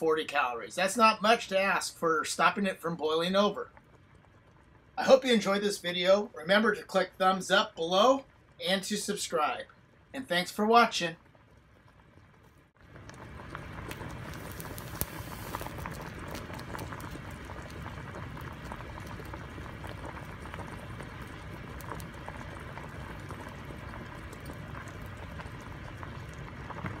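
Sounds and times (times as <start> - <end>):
water boiling and bubbling: 0.0 - 27.0.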